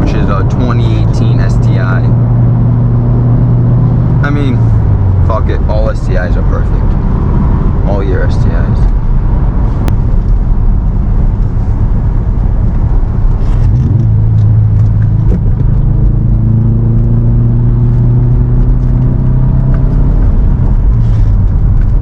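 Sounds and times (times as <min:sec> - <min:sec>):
car engine accelerating: 0:00.0 - 0:22.0
road noise: 0:00.0 - 0:22.0.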